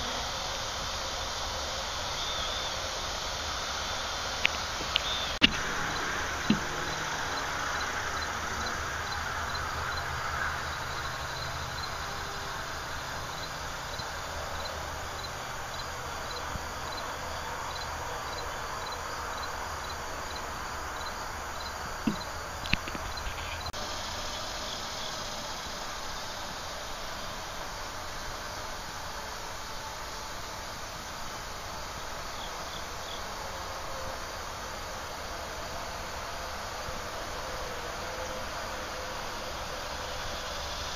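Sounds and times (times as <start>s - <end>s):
cricket chirping: 0.0s - 40.9s
outdoor hiss: 0.0s - 40.9s.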